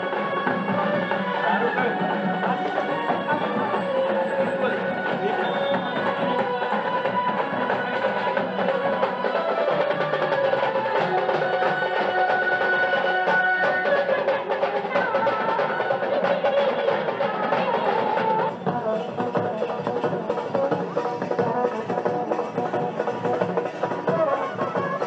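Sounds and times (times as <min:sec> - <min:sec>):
band music over loudspeakers: 0:00.0 - 0:25.0
held melody line: 0:00.0 - 0:25.0
steady drumming: 0:00.0 - 0:25.0.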